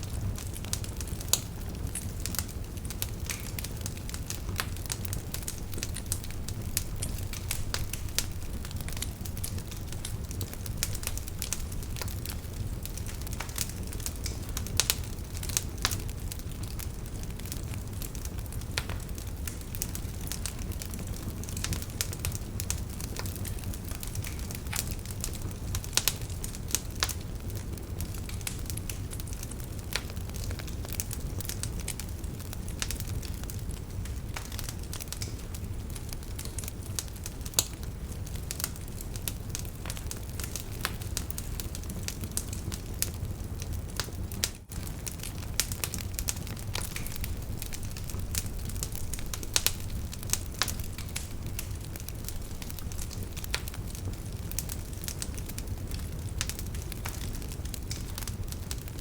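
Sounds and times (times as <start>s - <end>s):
low rumble of flame: 0.0s - 59.0s
wood fire crackling and popping: 0.0s - 59.0s.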